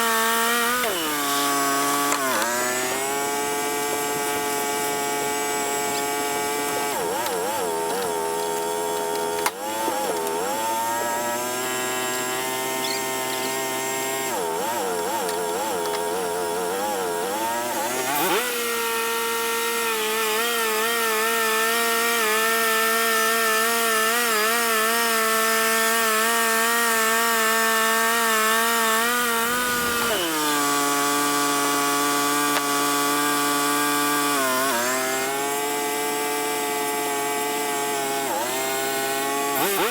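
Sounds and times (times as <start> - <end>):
sawmill engine sawing log: 0.0 - 39.9.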